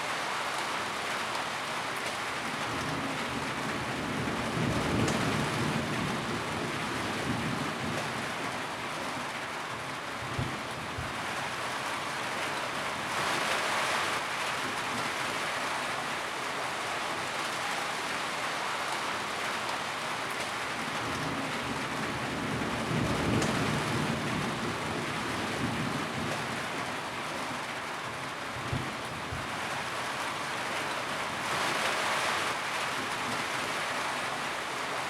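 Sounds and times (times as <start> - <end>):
rain on a tin roof: 0.0 - 35.0.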